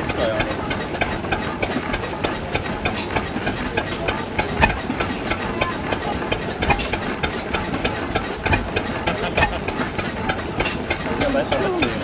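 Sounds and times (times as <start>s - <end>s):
diesel engine knocking: 0.0s - 12.0s
loud engine bangs: 0.0s - 12.0s.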